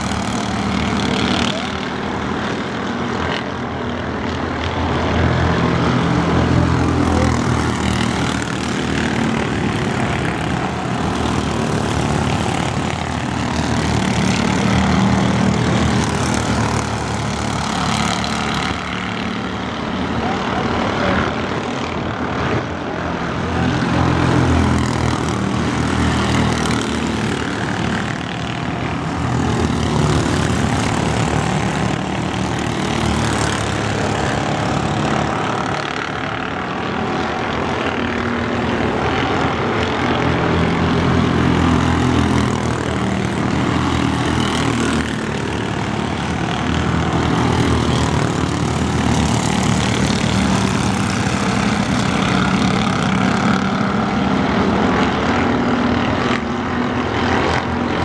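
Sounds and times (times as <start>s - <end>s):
race car engines passing: 0.0s - 58.0s.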